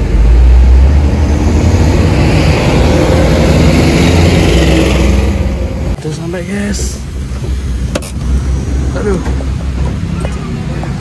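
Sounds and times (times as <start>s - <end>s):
outside traffic noise: 0.0s - 11.0s
road rumble: 0.0s - 11.0s
vehicle engine drone: 0.0s - 11.0s.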